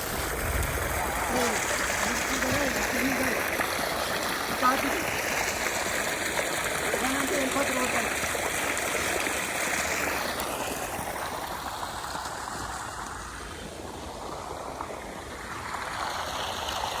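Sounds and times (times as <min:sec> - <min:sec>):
hose spraying water on concrete: 0:00.0 - 0:17.0.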